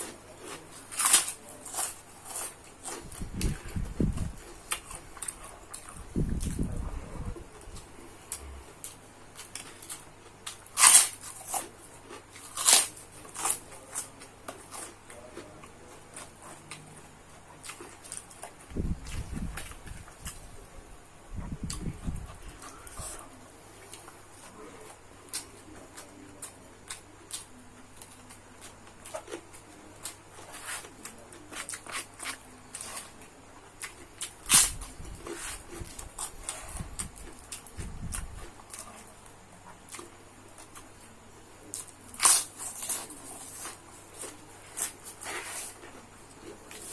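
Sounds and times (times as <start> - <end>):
person chewing food: 0.0 - 6.7, 7.5 - 20.6, 21.4 - 46.9.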